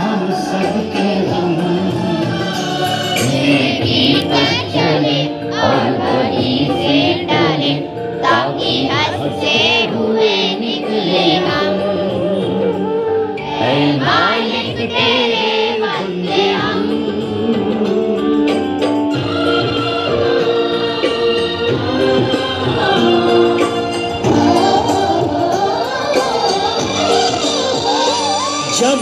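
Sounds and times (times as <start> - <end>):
children singing in unison: 0.0 - 17.8, 19.2 - 29.0.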